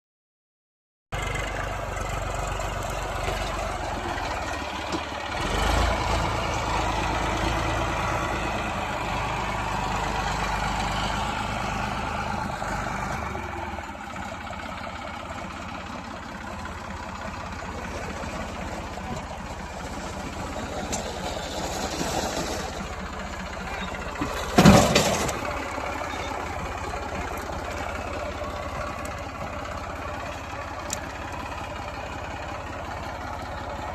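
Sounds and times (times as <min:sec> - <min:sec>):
tractor diesel engine running: 0:01.2 - 0:33.9.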